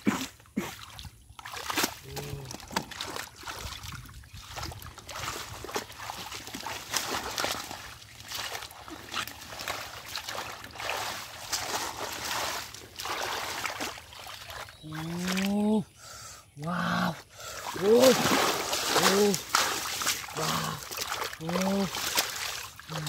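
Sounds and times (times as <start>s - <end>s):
splashing and sloshing in water: 0.0s - 15.9s, 16.6s - 23.0s.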